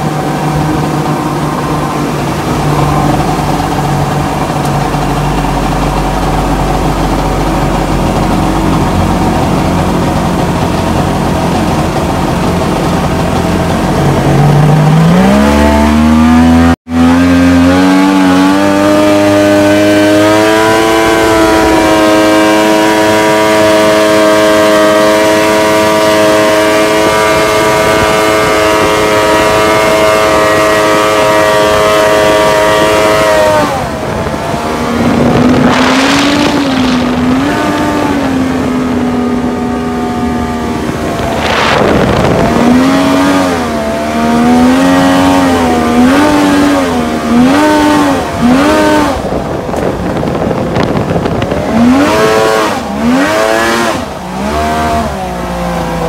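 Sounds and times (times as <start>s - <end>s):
jet boat engine revving: 0.0s - 56.0s.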